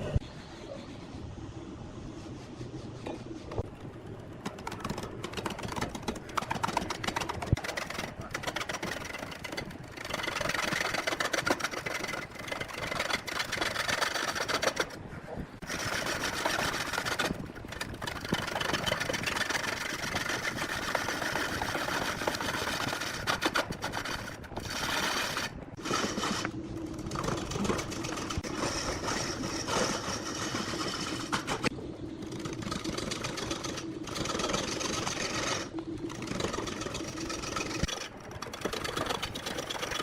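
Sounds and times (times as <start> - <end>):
motor hum: 3.4 - 40.0.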